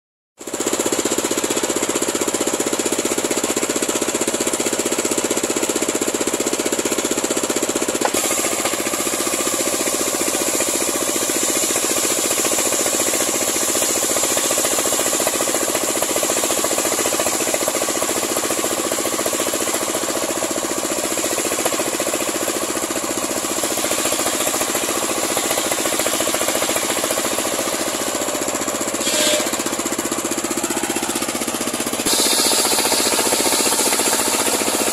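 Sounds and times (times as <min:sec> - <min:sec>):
circular sawmill running: 0:00.4 - 0:34.9.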